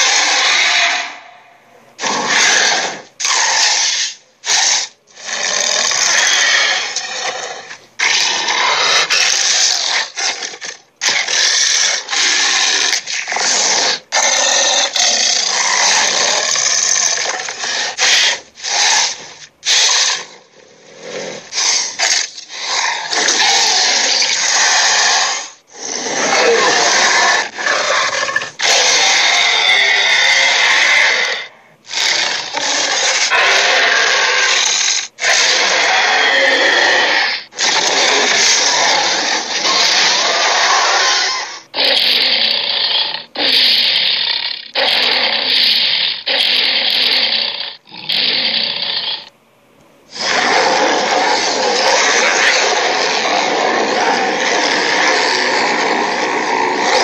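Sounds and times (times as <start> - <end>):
harsh rasping cartoon sound effects: 0.0 - 1.2, 2.0 - 20.4, 21.3 - 49.3, 50.1 - 57.0.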